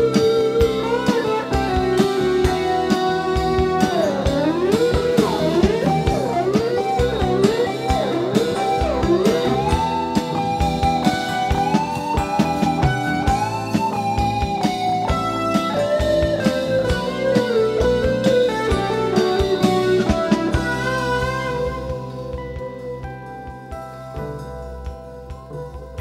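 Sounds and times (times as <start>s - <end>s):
electric guitar solo: 0.0s - 23.8s
drum kit beat: 0.0s - 26.0s.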